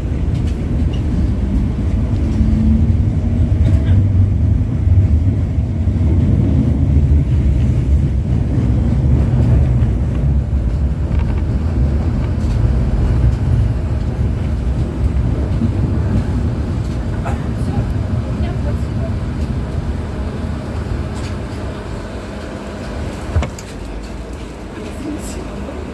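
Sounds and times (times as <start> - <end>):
tram wheels rumbling on rails: 0.0 - 25.9.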